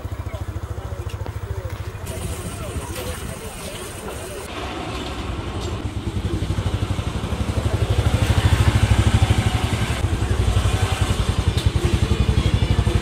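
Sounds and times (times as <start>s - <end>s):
motorcycle engine running: 0.0s - 3.6s, 5.2s - 13.0s.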